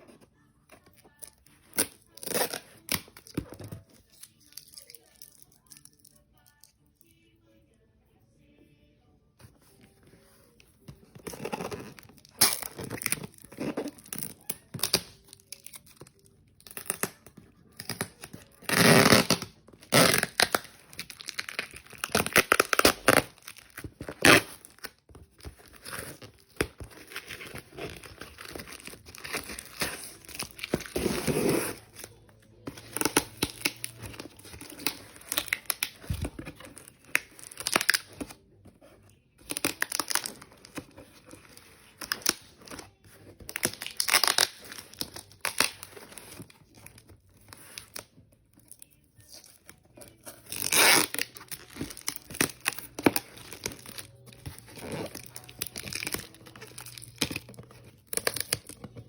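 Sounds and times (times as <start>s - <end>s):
plastic packaging crinkling and tearing: 1.0s - 6.7s, 11.0s - 59.0s.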